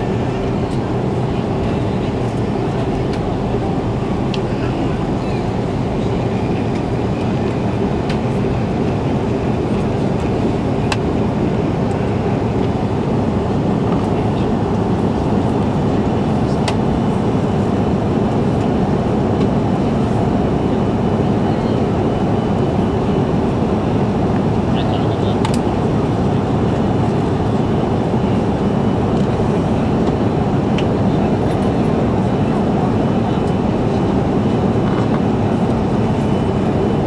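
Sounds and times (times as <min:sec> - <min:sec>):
jet engine drone in cabin: 0:00.0 - 0:37.0.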